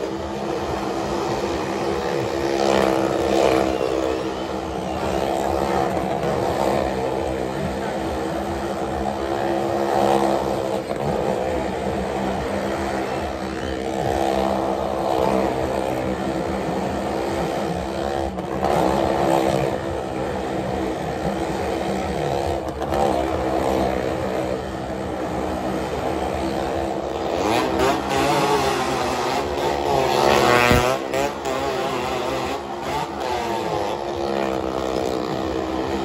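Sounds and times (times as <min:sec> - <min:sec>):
motorcycle and car engines revving: 0:00.0 - 0:36.0.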